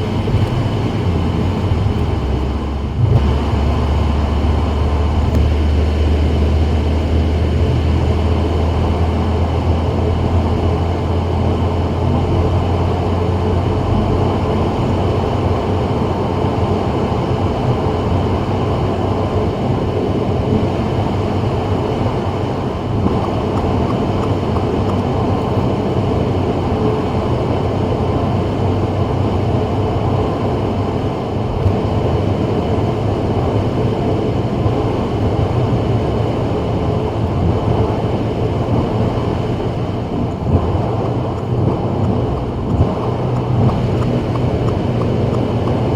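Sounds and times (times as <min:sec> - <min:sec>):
deep low rumble: 0:00.0 - 0:45.9
engine hum: 0:00.0 - 0:45.9
tyre and road noise: 0:00.0 - 0:45.9.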